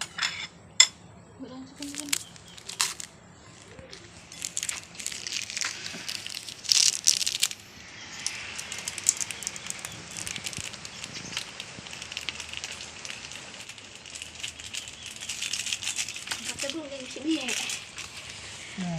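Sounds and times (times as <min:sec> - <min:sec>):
light rain pattering: 0:01.5 - 0:18.9.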